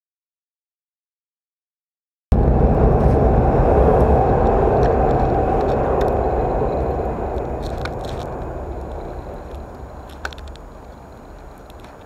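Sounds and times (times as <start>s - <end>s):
rumbling roar of passing vehicle: 2.3s - 12.0s.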